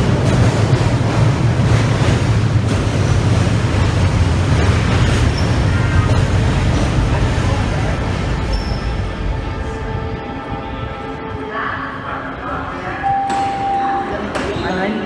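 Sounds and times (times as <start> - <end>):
train low hum and rumble: 0.0 - 14.4.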